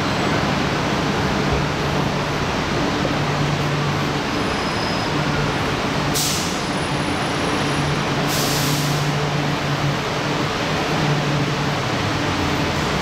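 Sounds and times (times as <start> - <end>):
train running noise with hum: 0.0 - 13.0.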